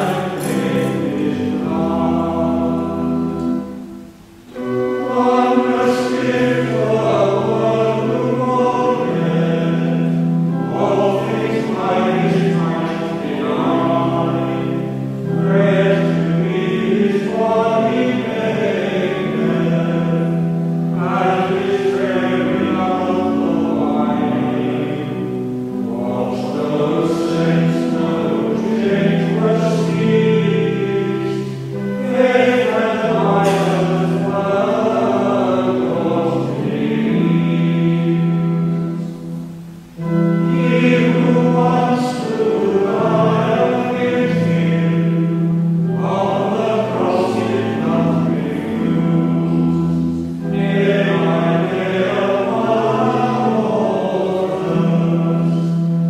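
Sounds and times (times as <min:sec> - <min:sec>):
organ chords: 0:00.0 - 0:56.0
voices singing plainchant in unison: 0:00.0 - 0:56.0.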